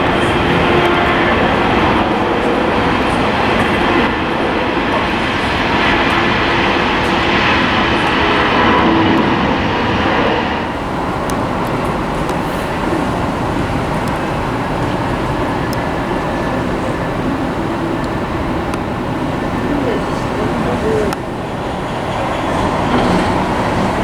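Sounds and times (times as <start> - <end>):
jet engine rushing: 0.0 - 24.0.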